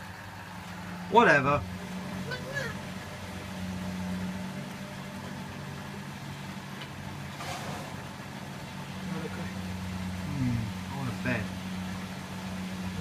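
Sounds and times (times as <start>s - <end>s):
washing machine drum motor humming: 0.0s - 13.0s.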